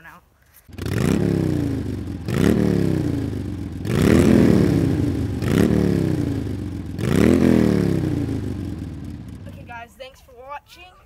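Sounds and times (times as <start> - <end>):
engine revving in bursts: 0.7 - 9.6.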